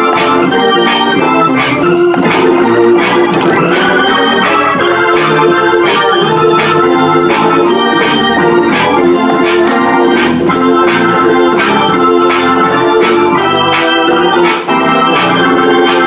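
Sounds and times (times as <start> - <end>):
organ chords: 0.0 - 16.0
steady beat: 0.0 - 16.0.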